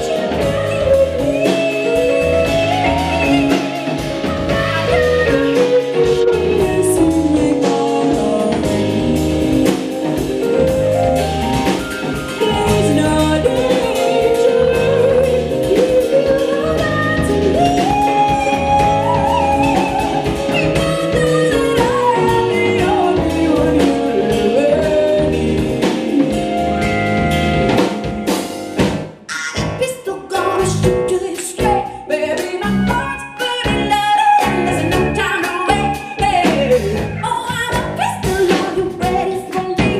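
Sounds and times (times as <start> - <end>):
person singing without words: 0.0 - 9.6, 12.4 - 26.6, 29.3 - 39.9
live band with drum kit: 0.0 - 39.9.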